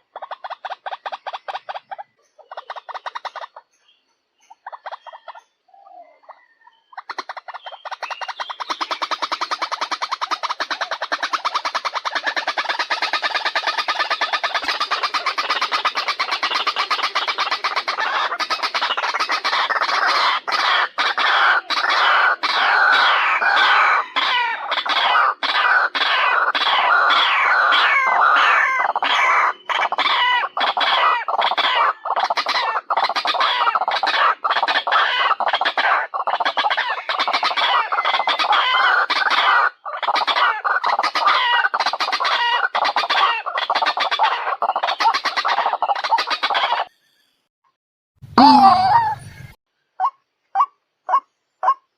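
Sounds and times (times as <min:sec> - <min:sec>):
waterhens calling: 0:00.0 - 0:03.8, 0:04.5 - 0:46.9, 0:48.3 - 0:51.9.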